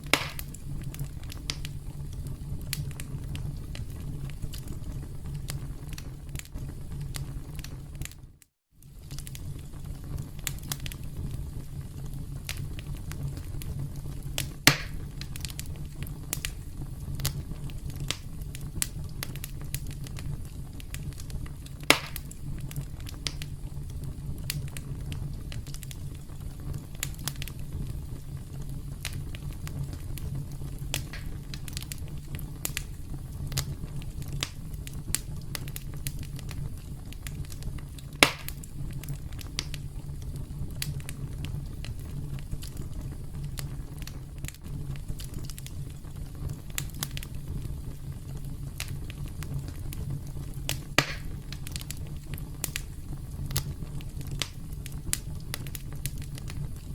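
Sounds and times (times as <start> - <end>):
campfire crackling: 0.0 - 56.9
loud fire pops: 0.0 - 56.9.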